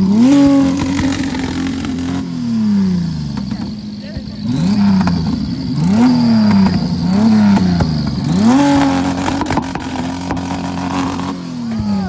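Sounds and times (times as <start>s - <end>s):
car engine revving hard: 0.0s - 12.0s
sharp exhaust cracks: 0.0s - 12.0s.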